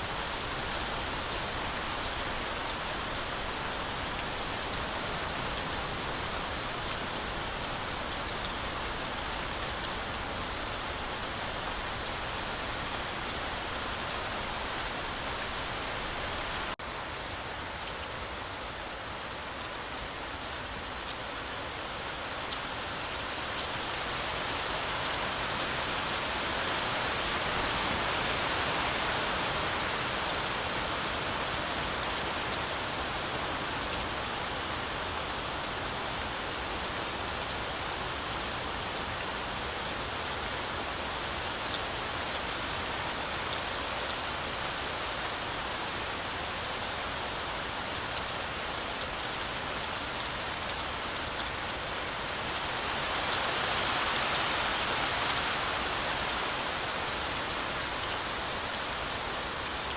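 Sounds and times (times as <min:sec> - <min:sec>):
heavy rain on forest canopy: 0:00.0 - 0:59.9.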